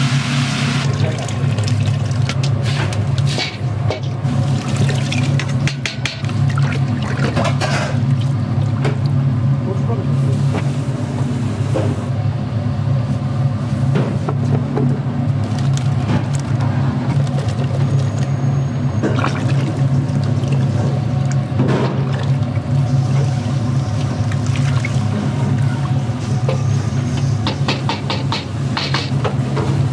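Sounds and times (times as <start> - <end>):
low mechanical hum: 0.0 - 29.9.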